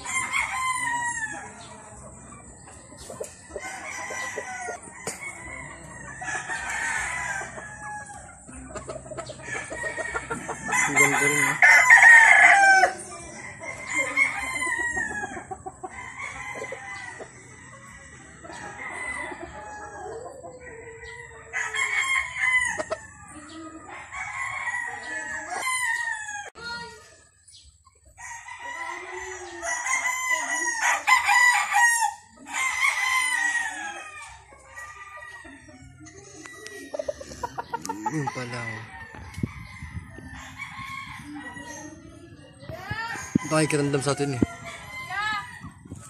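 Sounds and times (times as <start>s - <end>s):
roosters crowing: 0.0s - 46.0s.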